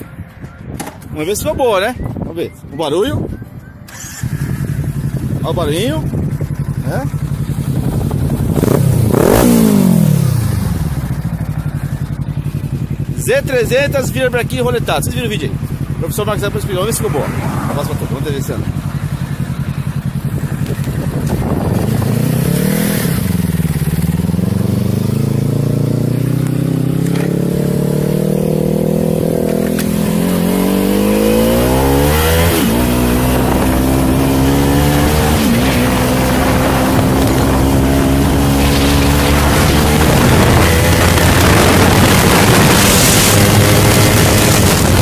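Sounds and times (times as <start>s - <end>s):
motorcycle engine revving: 3.8s - 45.0s.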